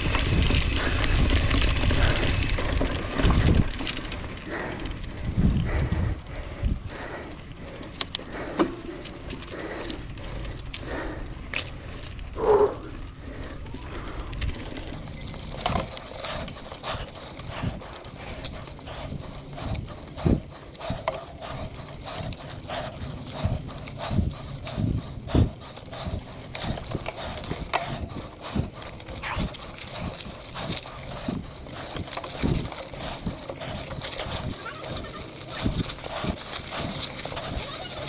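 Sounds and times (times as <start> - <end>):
bike clattering over dirt trail: 0.0 - 6.1, 13.5 - 38.0.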